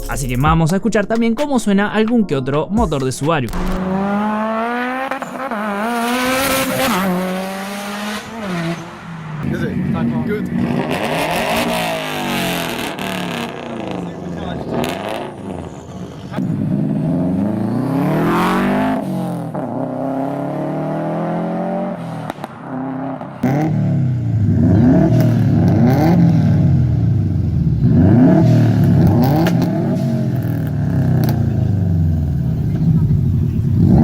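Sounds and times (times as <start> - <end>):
car engine revving: 3.5 - 34.0.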